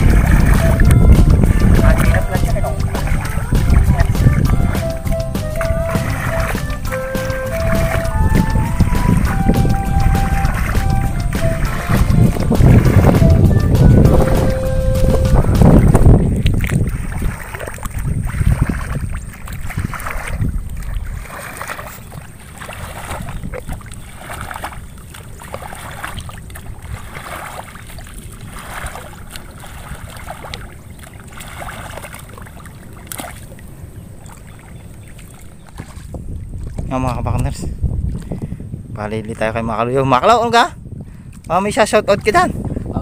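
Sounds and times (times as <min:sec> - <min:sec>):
water and mud sloshing: 0:00.0 - 0:43.0
wind buffeting microphone: 0:00.0 - 0:43.0.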